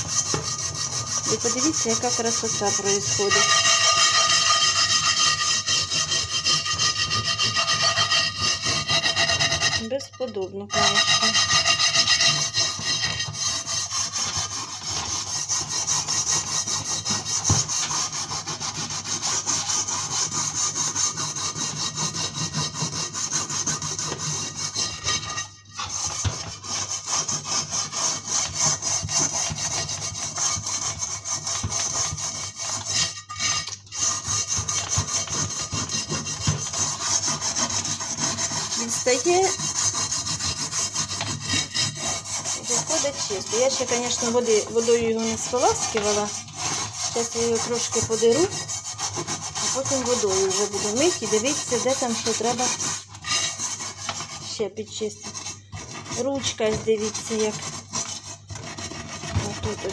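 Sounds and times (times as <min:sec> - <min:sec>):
scrubbing a frying pan: 0:00.0 - 0:59.9.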